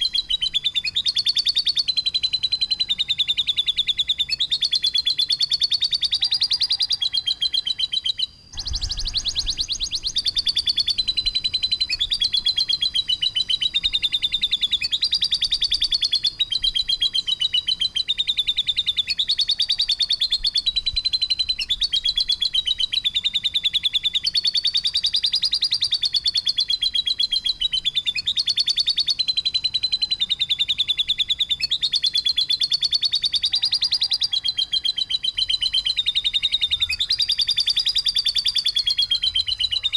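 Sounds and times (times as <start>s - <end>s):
songbird fast trilling calls: 0.0s - 39.9s.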